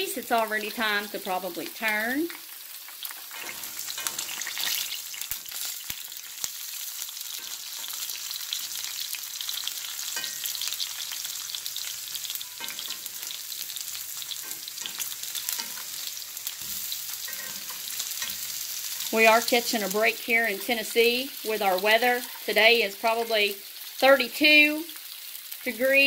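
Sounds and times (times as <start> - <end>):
sausages sizzling in oil: 0.0 - 26.0.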